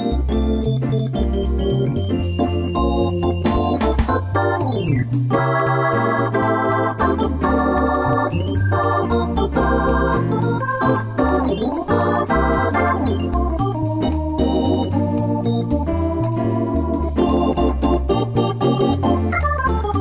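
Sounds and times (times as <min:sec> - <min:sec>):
keyboard tune with bass and beat: 0:00.0 - 0:20.0.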